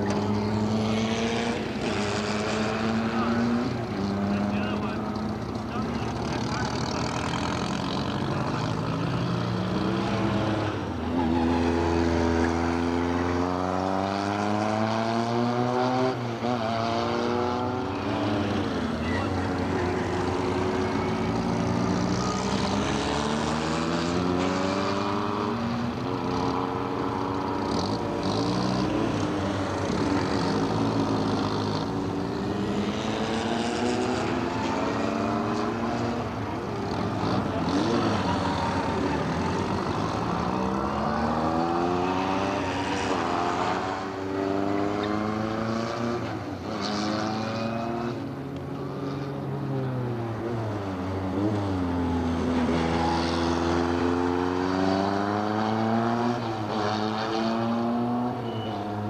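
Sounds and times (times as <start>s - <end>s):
cars passing by: 0.0s - 59.0s
race car engines accelerating: 0.0s - 59.0s.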